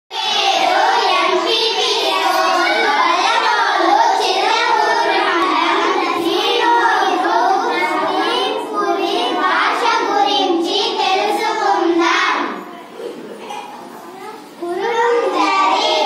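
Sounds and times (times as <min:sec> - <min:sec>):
girls singing in unison: 0:00.1 - 0:12.6, 0:15.4 - 0:16.0.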